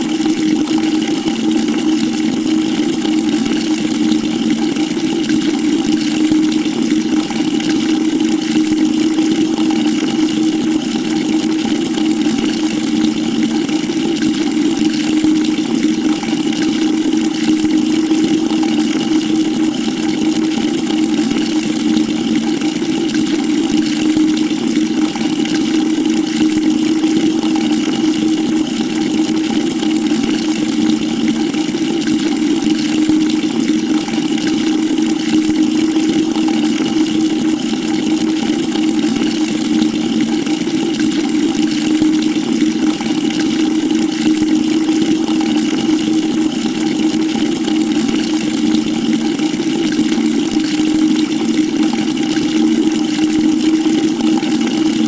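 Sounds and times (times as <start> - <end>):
water pouring into a bucket: 0.0 - 55.0.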